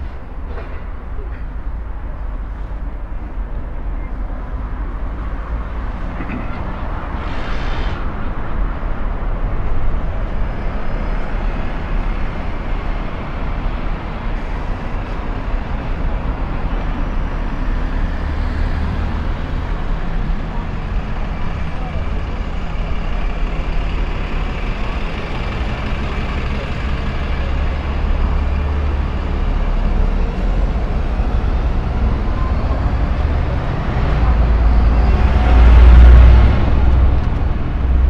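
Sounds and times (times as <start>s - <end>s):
traffic engine rumble: 0.0s - 38.0s.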